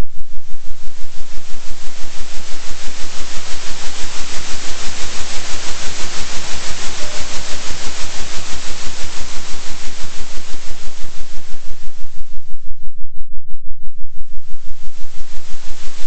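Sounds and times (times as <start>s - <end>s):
pulsing electronic hiss: 0.0s - 12.6s, 14.2s - 16.0s
steady low hum: 0.0s - 16.0s.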